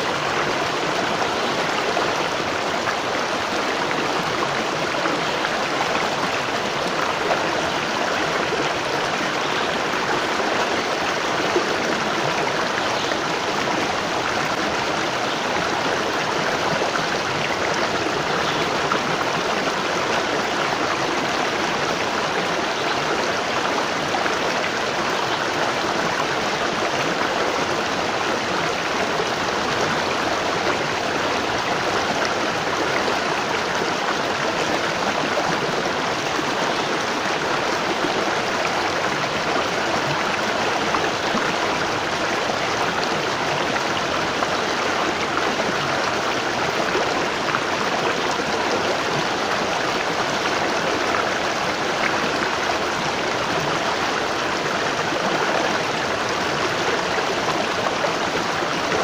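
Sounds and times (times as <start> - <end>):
waterfall rushing and splashing: 0.0 - 59.0.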